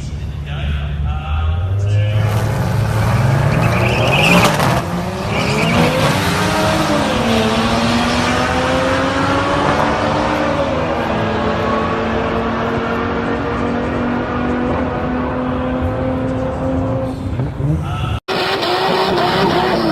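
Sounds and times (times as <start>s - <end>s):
car engine accelerating hard: 1.8s - 19.9s.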